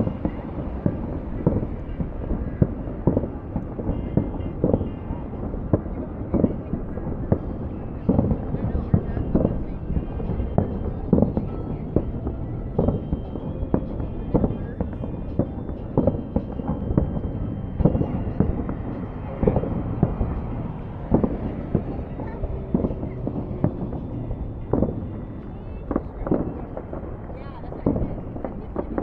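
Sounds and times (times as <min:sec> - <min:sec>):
fireworks bangs and booms: 0:00.0 - 0:29.0
low rumble: 0:00.0 - 0:29.0.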